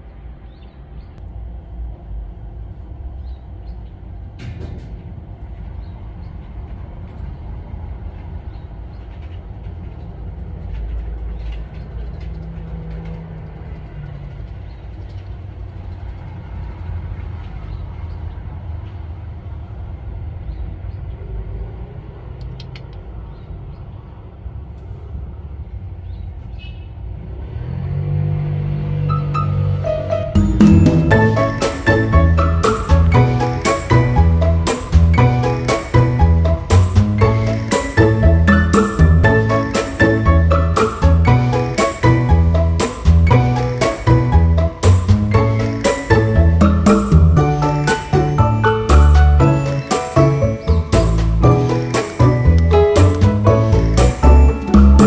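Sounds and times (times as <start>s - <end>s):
distant road traffic rumble: 0.0s - 55.0s.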